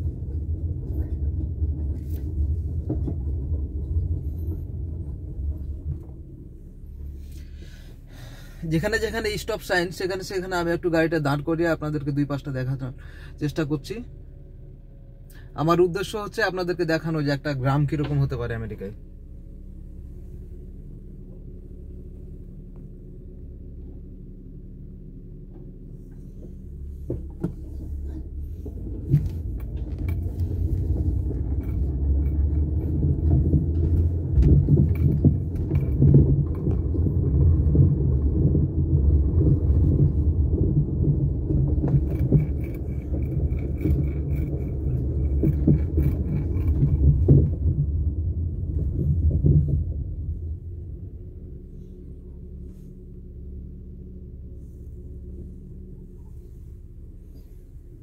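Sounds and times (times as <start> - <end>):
car engine idling: 0.0 - 58.0
engine and tyre rumble on road: 0.0 - 58.0.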